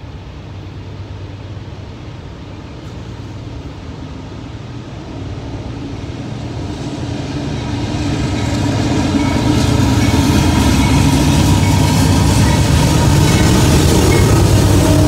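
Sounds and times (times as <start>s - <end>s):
locomotive engine rumble: 0.0s - 15.0s.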